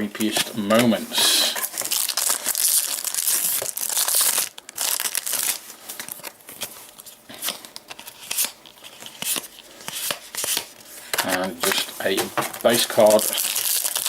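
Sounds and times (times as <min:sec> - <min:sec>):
wrapper tearing and crinkling: 0:01.5 - 0:14.0.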